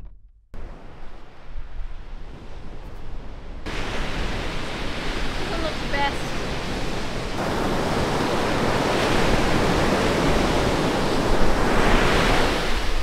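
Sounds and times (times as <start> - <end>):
ocean surf breaking on beach: 0.6 - 13.0.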